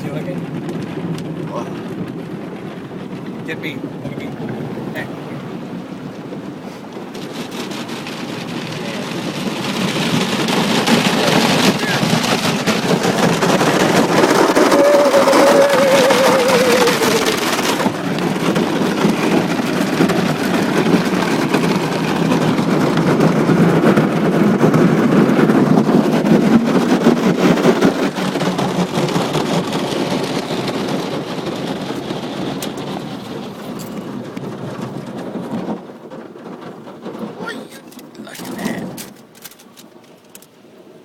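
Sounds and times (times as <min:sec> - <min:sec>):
car wash water spraying: 0:00.0 - 0:38.4.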